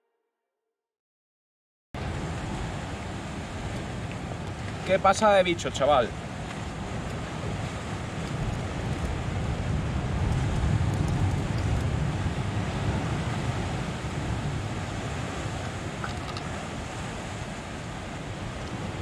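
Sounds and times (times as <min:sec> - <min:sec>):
surf breaking on rocks: 0:02.0 - 0:19.0
wind buffeting microphone: 0:02.0 - 0:19.0.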